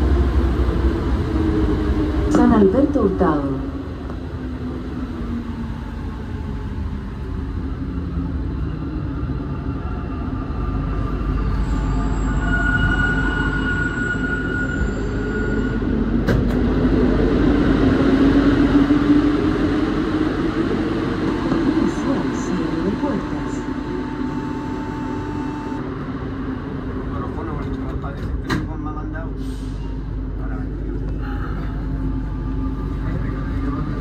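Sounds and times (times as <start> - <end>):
metro car rumble: 0.0 - 34.0.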